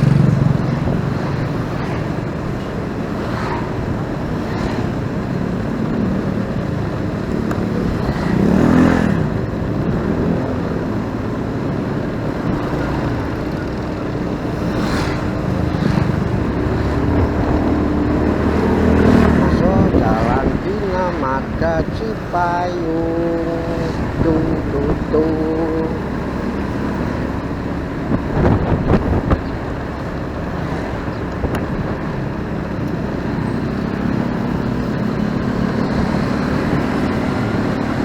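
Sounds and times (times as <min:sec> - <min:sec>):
motorcycle engine running: 0:00.0 - 0:38.0
road and traffic noise: 0:00.0 - 0:38.0.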